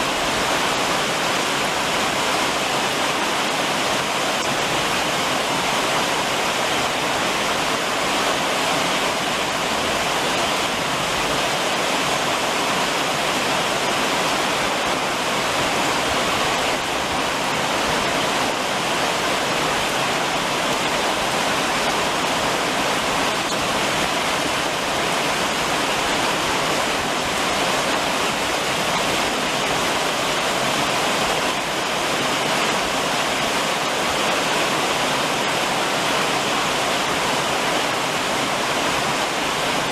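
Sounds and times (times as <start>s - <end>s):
rain drumming on a roof: 0.0s - 39.9s.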